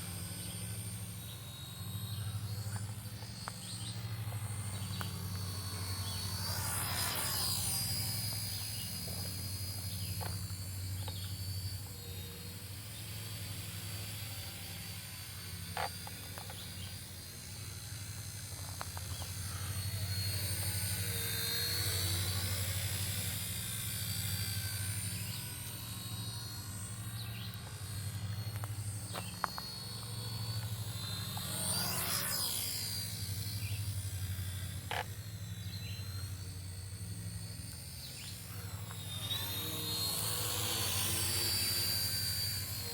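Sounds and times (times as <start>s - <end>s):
helicopter rotor chop: 0.0s - 42.9s
high whine wavering in pitch: 0.0s - 42.9s.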